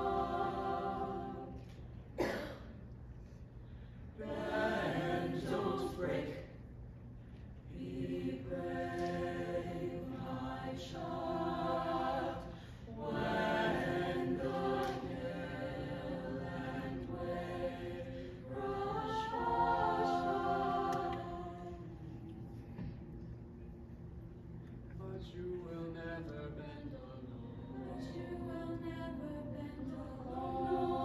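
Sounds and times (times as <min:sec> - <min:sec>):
mixed choir singing: 0:00.0 - 0:02.4, 0:04.2 - 0:06.7, 0:07.7 - 0:22.9, 0:25.6 - 0:31.0.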